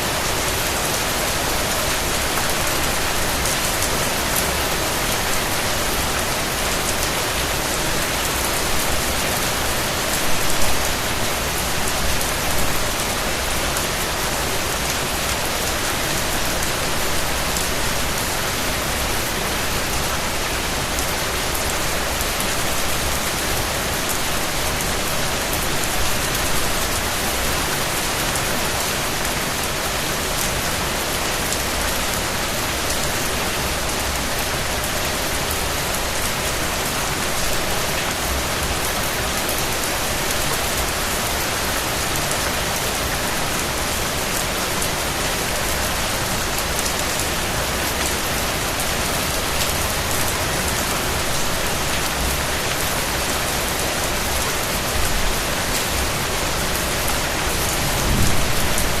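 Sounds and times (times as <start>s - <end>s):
rain falling on surface: 0.0s - 59.0s.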